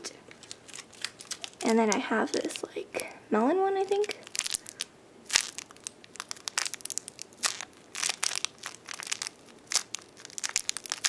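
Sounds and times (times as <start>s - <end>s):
plastic bag crinkling: 0.3s - 3.1s, 3.8s - 11.0s.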